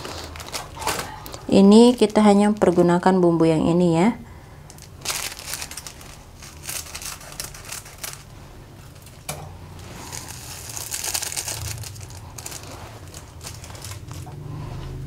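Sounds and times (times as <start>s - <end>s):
foil sachets crinkling: 0.0s - 3.3s, 4.7s - 14.4s.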